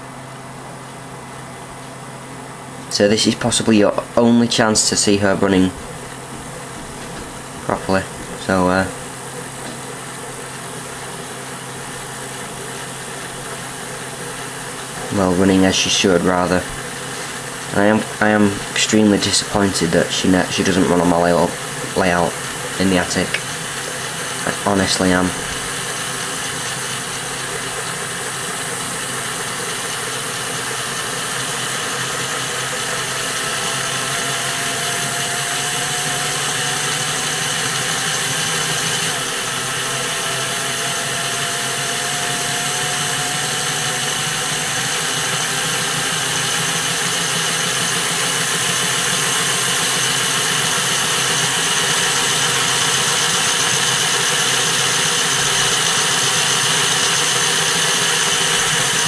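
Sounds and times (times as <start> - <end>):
rising whine: 0.0 - 59.0
model train motor whirring: 5.8 - 59.0.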